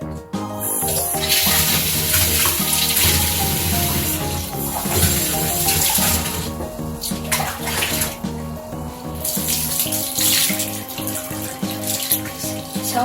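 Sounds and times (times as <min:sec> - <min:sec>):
background music: 0:00.0 - 0:13.0
water spraying from shower head: 0:00.6 - 0:13.0.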